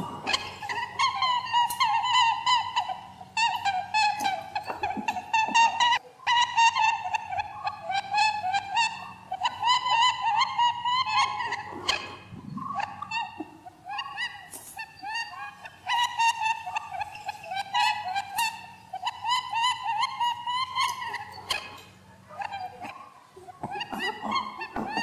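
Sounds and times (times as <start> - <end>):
squeaky chirping calls: 0.0 - 25.0.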